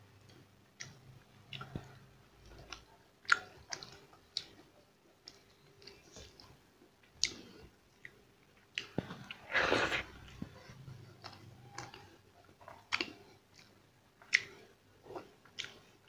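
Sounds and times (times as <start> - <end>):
person chewing: 0.3 - 4.6, 7.2 - 16.0
mouth clicks and smacks: 0.3 - 6.5, 7.1 - 10.5, 12.7 - 16.0.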